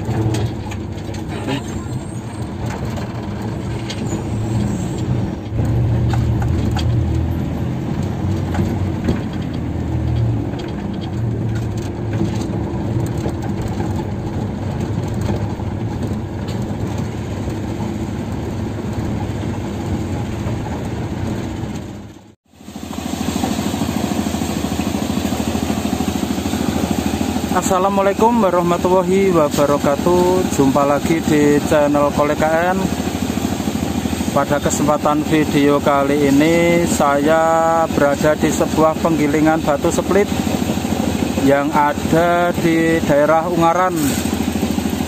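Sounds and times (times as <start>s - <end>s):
cab and road noise: 0.0s - 45.0s
pickup engine running: 0.0s - 45.0s
steady outdoor noise: 0.0s - 45.0s.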